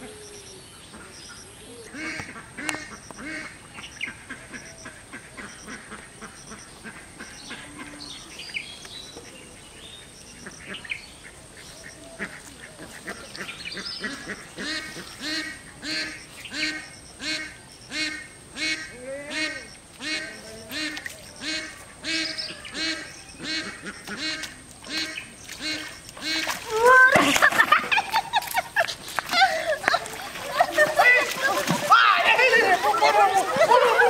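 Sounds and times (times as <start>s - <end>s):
ducks quacking: 0.9s - 8.4s, 10.4s - 34.0s.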